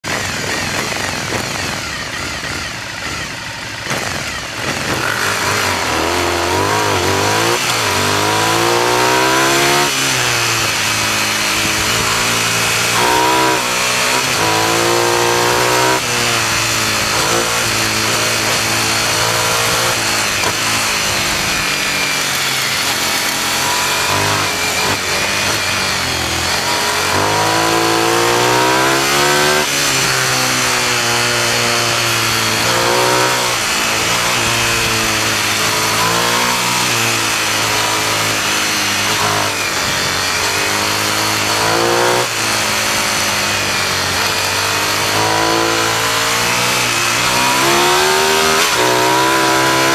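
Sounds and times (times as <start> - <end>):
motorcycle engine revving hard: 0.0 - 49.9
wind and road noise: 0.0 - 49.9.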